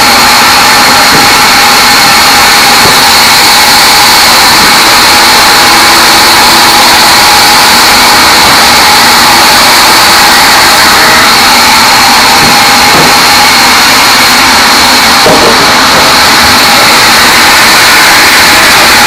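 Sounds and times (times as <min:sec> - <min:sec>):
band saw cutting wood: 0:00.0 - 0:19.0.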